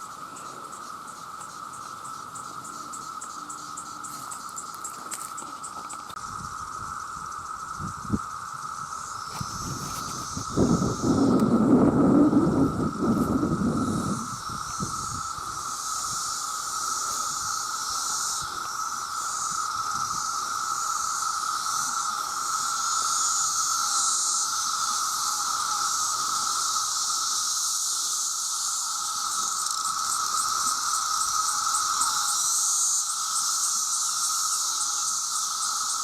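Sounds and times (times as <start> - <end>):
cicadas droning: 0.0 - 36.0
high hissing buzz: 0.0 - 36.0.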